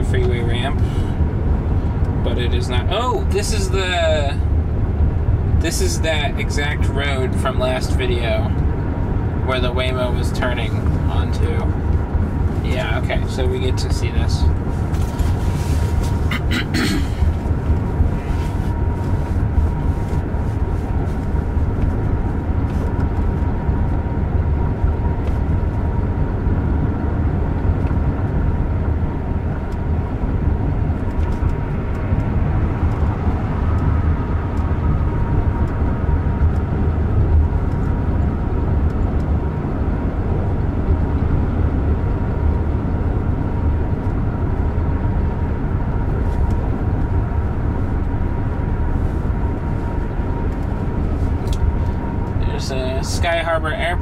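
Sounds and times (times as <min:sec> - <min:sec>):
road and tyre noise: 0:00.0 - 0:54.0
wind rush in car cabin: 0:00.0 - 0:54.0.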